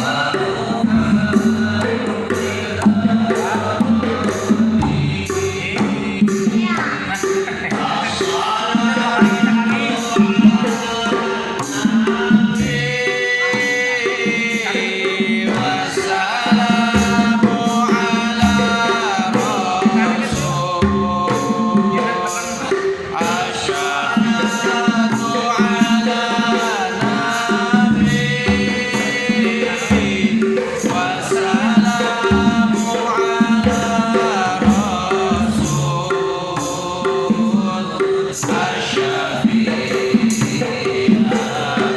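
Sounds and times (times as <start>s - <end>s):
hand drum rhythm: 0.0s - 41.9s
person singing ornamented phrases: 0.0s - 41.9s.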